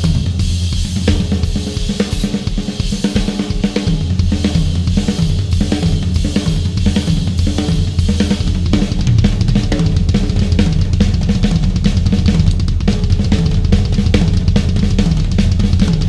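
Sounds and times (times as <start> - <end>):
drum kit played fast: 0.0 - 16.0.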